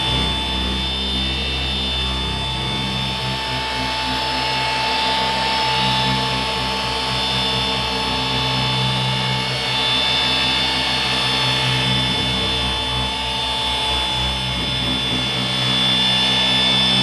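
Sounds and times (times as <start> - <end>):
orbital polisher whining: 0.0 - 17.0.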